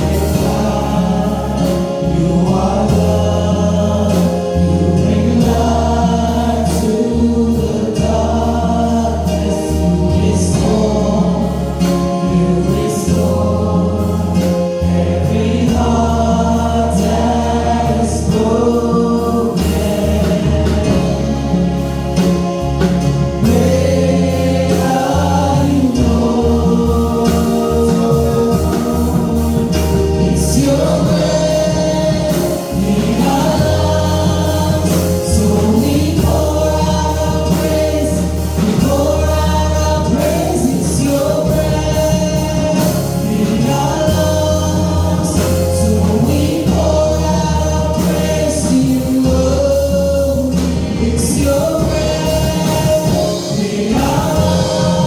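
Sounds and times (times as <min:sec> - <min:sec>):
choir singing gospel: 0:00.0 - 0:55.0
instrumental backing with beat: 0:00.0 - 0:55.0.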